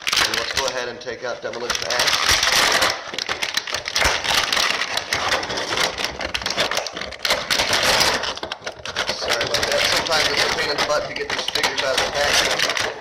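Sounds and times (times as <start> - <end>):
plastic packaging crackling: 0.0 - 13.0.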